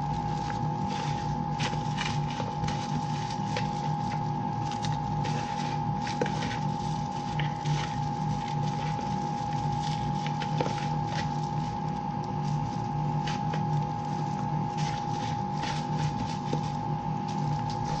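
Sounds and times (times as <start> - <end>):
chicken tossed in plastic bowl: 0.0 - 18.0
machine hum with whine: 0.0 - 18.0.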